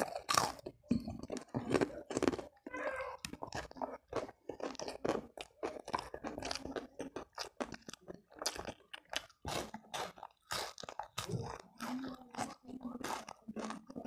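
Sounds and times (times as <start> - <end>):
close chewing crunches: 0.0 - 14.0.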